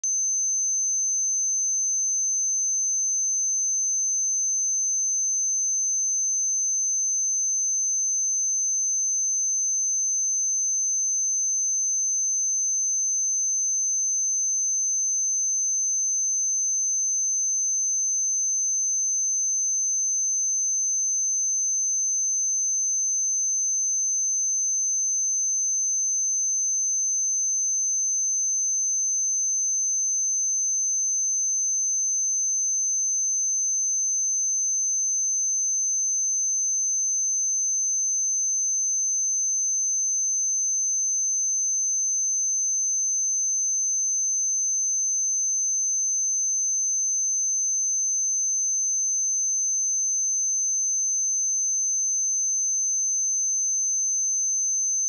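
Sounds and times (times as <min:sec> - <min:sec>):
high-pitched sine test tone: 0:00.0 - 0:55.0.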